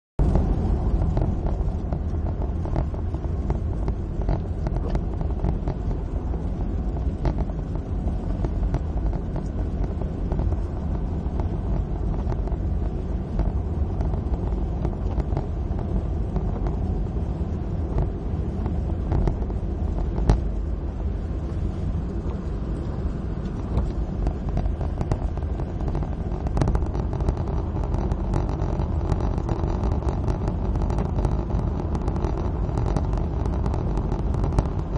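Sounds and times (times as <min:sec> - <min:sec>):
car engine and road noise: 0:00.2 - 0:34.9.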